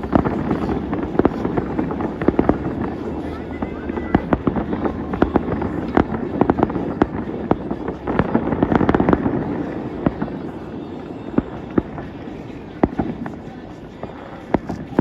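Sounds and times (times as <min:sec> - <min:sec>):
distant fireworks bangs and crackles: 0:00.0 - 0:15.0
rolling rumble: 0:00.0 - 0:15.0.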